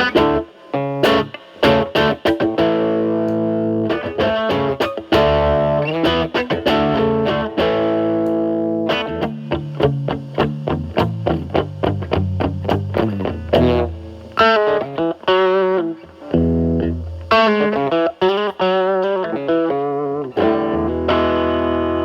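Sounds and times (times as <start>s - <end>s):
electric guitar playing: 0.0s - 22.0s.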